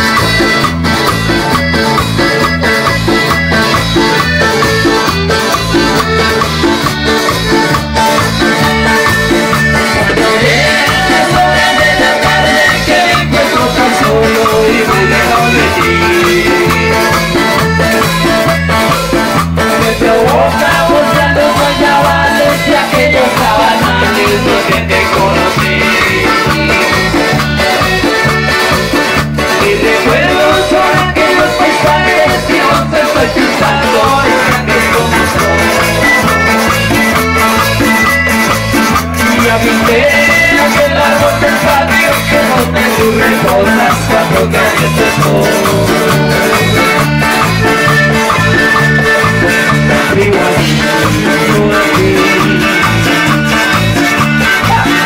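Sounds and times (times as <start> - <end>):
accordion melody: 0.0 - 55.0
guitar: 0.0 - 55.0
steady bass beat: 0.0 - 55.0.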